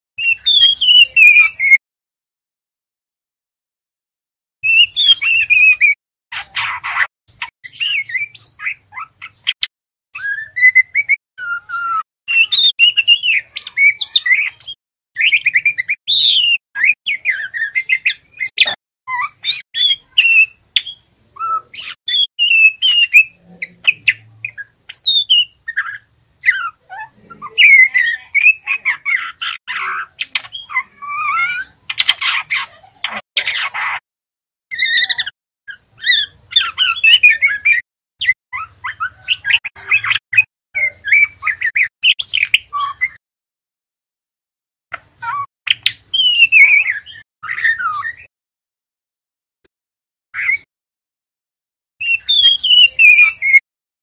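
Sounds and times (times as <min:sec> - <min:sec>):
bird chirping and whistling: 0:00.2 - 0:01.8, 0:04.6 - 0:34.0, 0:34.7 - 0:43.2, 0:45.2 - 0:48.3, 0:50.4 - 0:50.7, 0:52.0 - 0:53.6.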